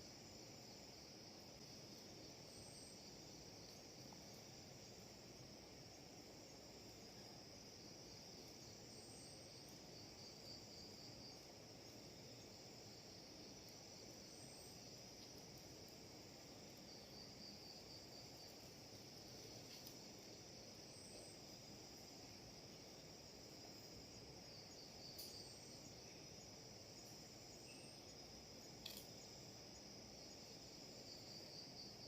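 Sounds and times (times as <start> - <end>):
low background hiss: 0.0 - 32.0
night insects chirring: 0.0 - 32.0.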